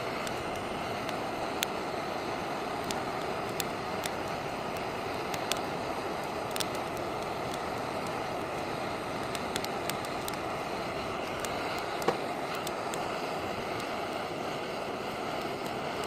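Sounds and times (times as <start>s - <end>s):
campfire flames rushing: 0.0s - 16.0s
firewood crackling and popping: 0.0s - 16.0s.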